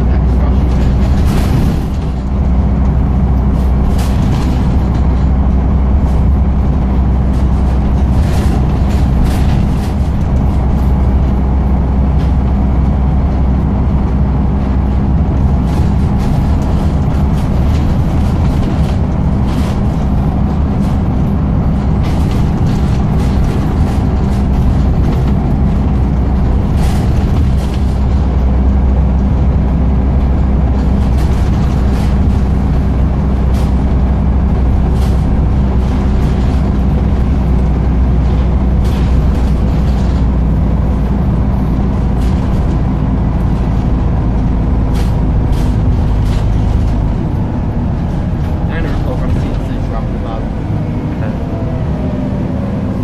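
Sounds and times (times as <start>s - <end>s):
body and fittings rattling: 0.0s - 50.4s
bus diesel engine humming: 0.0s - 53.0s
road noise: 0.0s - 53.0s.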